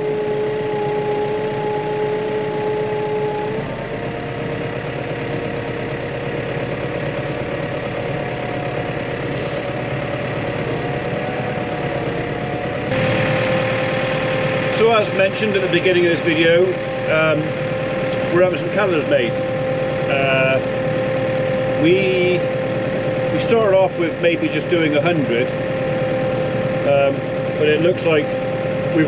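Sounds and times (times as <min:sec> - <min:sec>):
steady whine: 0:00.0 - 0:29.0
tractor engine running at low revs: 0:00.0 - 0:29.0.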